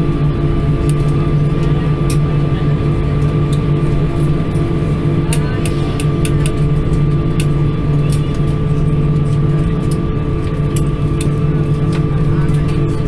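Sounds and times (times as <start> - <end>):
airplane cabin hum: 0.0 - 13.0.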